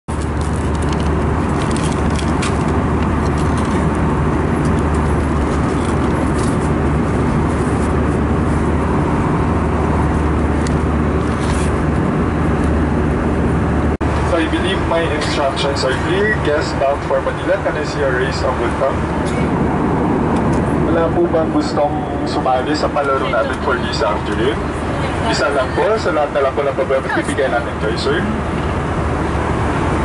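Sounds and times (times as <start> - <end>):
airliner cabin engine hum: 0.1 - 30.0.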